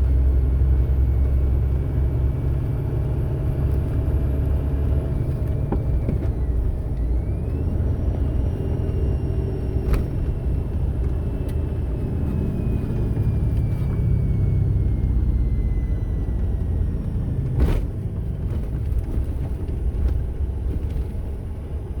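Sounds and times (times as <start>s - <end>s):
car cabin rumble: 3.6s - 22.0s.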